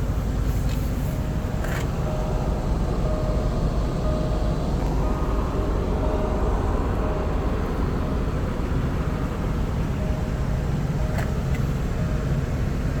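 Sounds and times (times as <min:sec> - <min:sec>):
car engine rumble while driving: 0:00.0 - 0:13.0.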